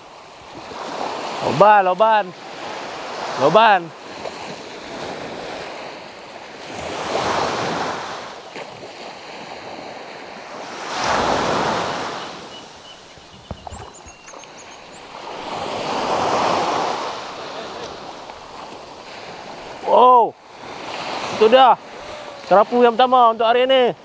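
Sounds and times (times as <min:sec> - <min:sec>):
small waves washing on beach: 0:00.0 - 0:24.0.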